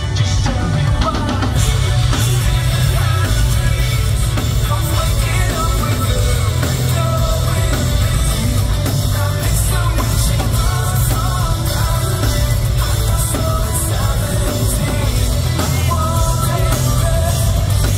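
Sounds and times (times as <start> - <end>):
heavy bass: 0.0 - 17.9
rock band playing live: 0.0 - 17.9.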